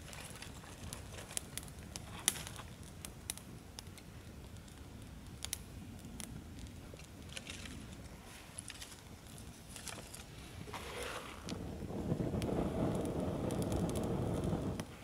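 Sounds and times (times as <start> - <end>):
campfire twigs crackling: 0.0 - 15.0.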